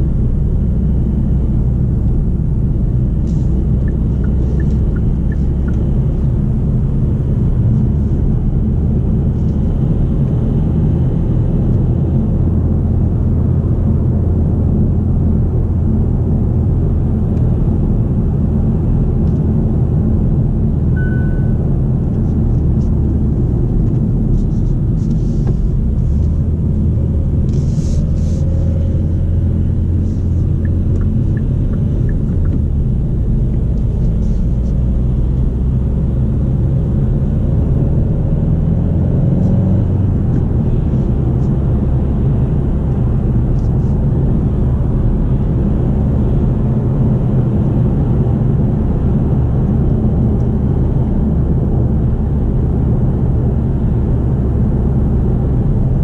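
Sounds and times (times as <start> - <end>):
diesel engine rumble in car cabin: 0.0 - 56.0
road noise: 0.0 - 56.0.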